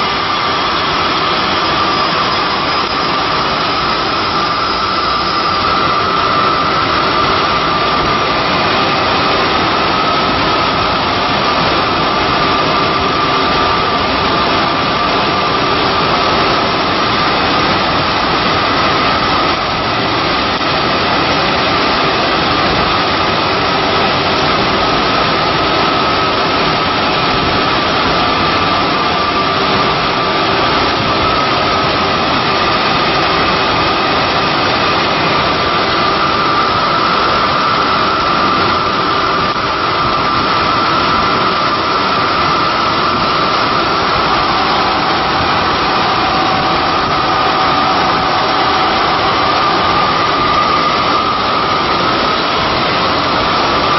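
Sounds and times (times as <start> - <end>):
machine running with high whine: 0.0 - 53.9.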